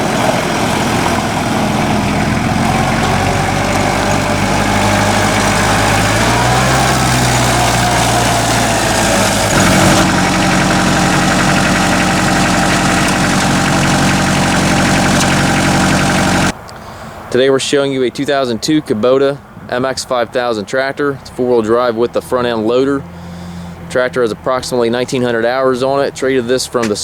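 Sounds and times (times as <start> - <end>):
tractor diesel engine idling: 0.0 - 16.5, 21.4 - 27.0.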